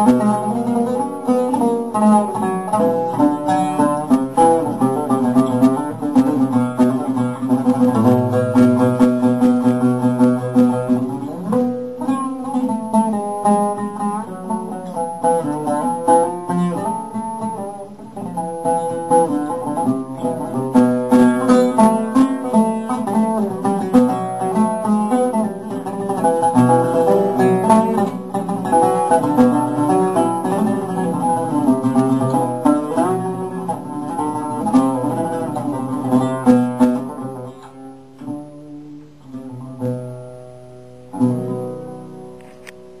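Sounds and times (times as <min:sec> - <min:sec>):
solo oud improvisation: 0:00.0 - 0:43.0.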